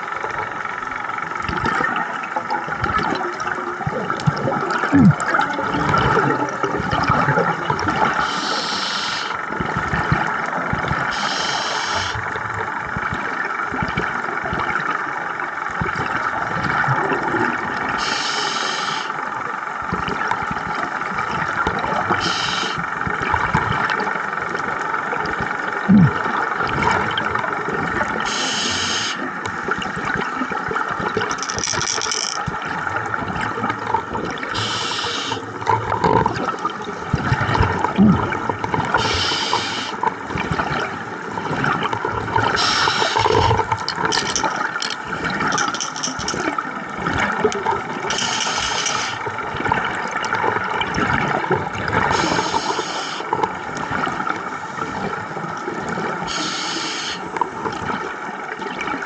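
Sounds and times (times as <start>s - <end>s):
scuba exhaled bubbles: 0.0s - 59.0s
underwater water noise: 0.0s - 59.0s.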